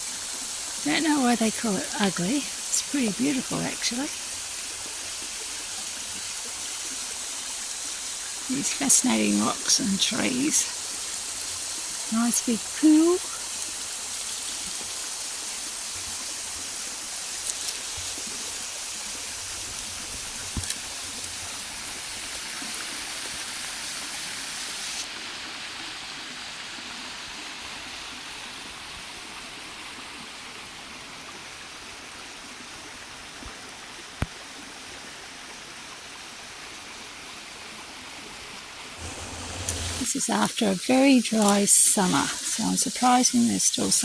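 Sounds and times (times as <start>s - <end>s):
waterfall rushing into pool: 0.0s - 44.0s.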